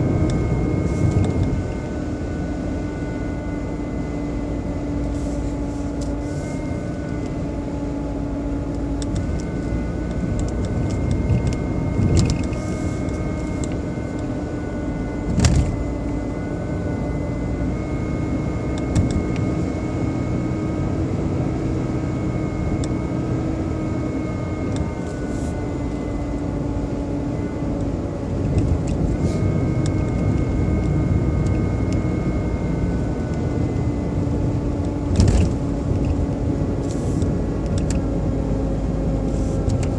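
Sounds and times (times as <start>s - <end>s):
engine rumble: 0.0s - 39.9s
engine whine: 0.0s - 39.9s.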